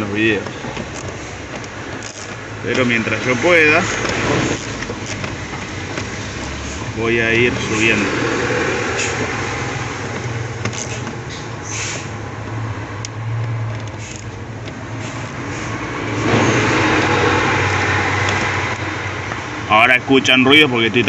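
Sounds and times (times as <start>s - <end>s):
street traffic hum: 0.0s - 21.0s
vehicle passing by: 2.4s - 20.8s.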